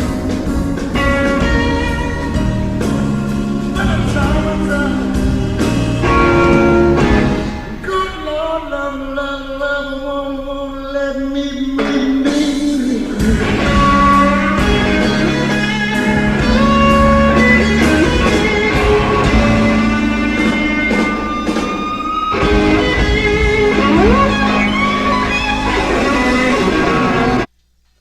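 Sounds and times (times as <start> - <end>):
bass and drums: 0.0 - 7.9, 11.8 - 27.5
electric blues guitar: 0.0 - 7.9, 11.7 - 27.5.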